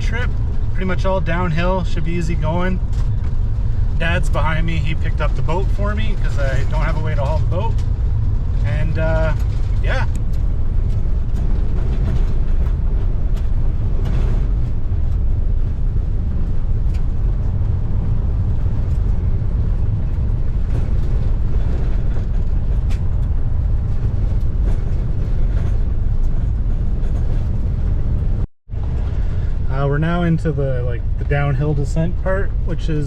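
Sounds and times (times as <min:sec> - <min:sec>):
engine and tyres rumbling: 0:00.0 - 0:33.0.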